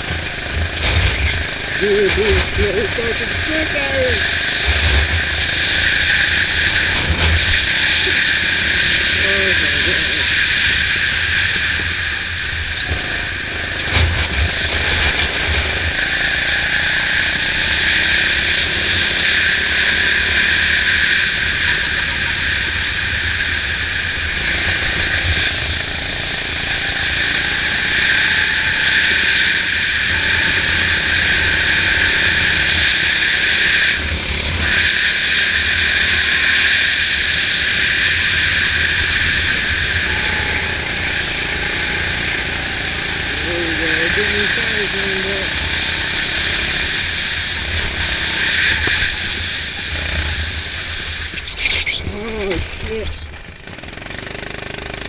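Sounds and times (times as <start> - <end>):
kart engine running hard: 0.0 - 55.0.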